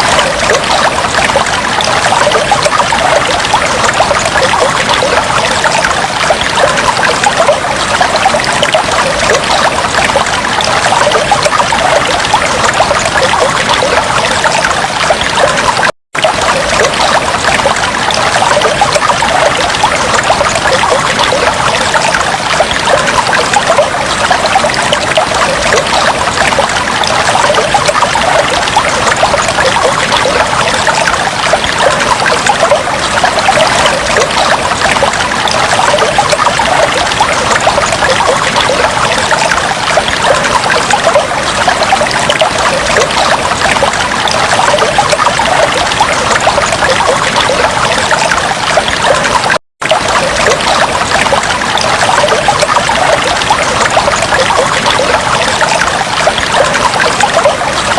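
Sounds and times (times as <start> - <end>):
aquarium water bubbling: 0.0 - 57.9.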